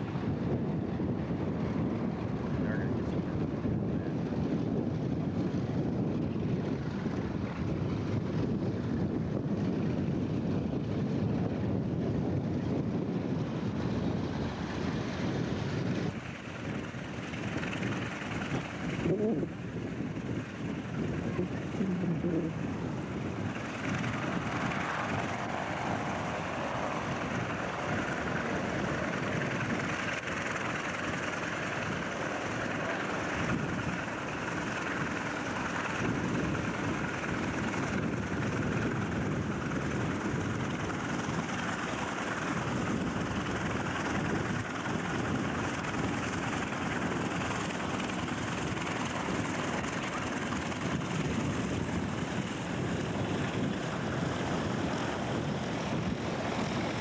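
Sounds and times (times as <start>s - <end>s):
propeller aircraft engine: 0.0s - 57.0s.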